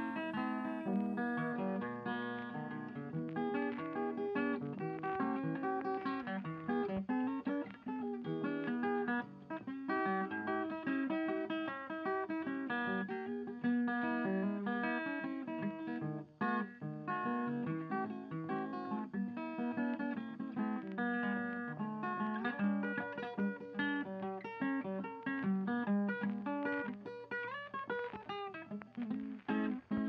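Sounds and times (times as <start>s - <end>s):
plucked guitar instrumental: 0.0s - 30.0s.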